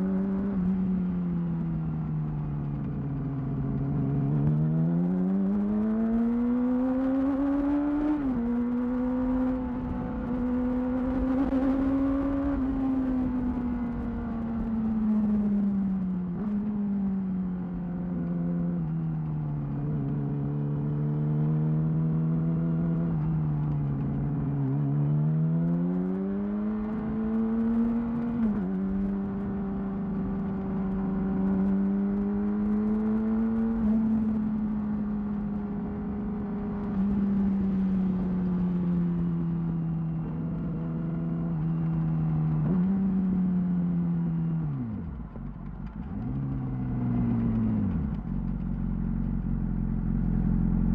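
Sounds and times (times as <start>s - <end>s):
motorcycle engine revving: 2.7s - 15.7s, 18.0s - 50.9s.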